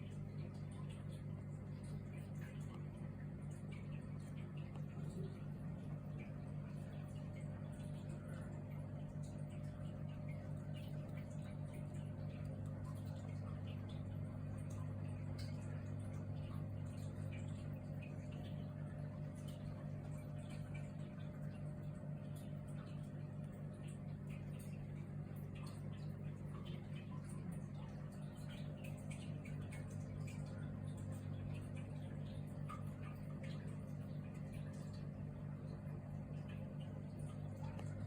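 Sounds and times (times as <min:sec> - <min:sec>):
aquarium pump humming: 0:00.0 - 0:38.0.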